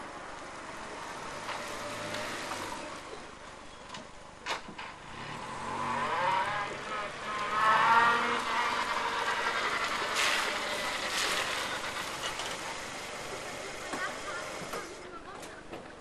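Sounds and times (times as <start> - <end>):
car engine accelerating: 0.0 - 3.4, 5.0 - 14.9.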